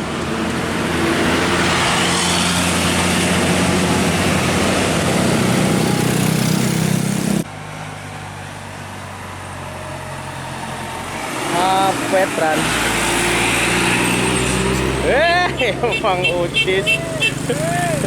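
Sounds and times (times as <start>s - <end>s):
bus passing: 0.0s - 18.0s
steady engine hum: 0.0s - 18.0s.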